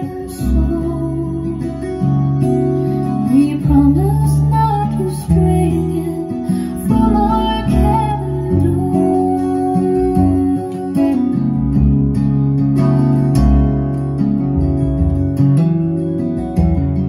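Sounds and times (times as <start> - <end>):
folk song with acoustic guitar: 0.0 - 17.0.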